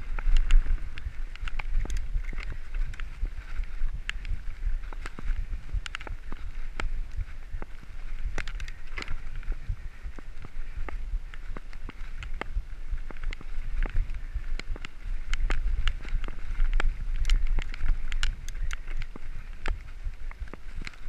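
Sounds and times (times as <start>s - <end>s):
bike rattling: 0.0s - 21.0s
wind buffeting microphone: 0.0s - 21.0s.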